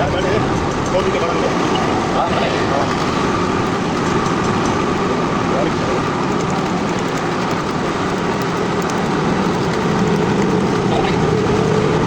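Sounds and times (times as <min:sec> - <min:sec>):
car engine idling and misfiring: 0:00.0 - 0:12.0.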